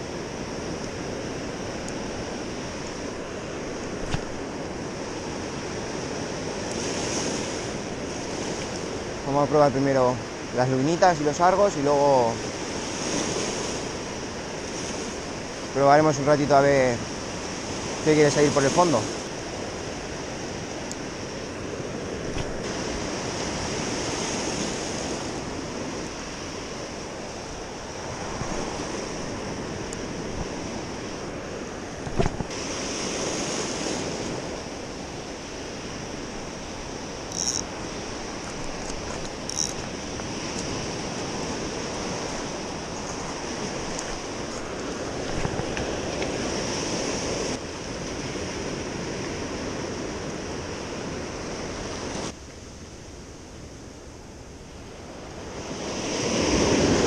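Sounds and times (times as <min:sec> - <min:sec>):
small waves washing ashore: 0:00.0 - 0:57.0.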